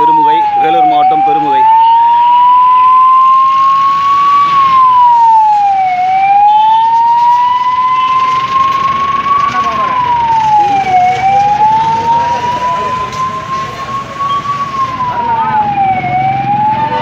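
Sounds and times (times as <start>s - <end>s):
ambulance siren wailing: 0.0s - 17.0s.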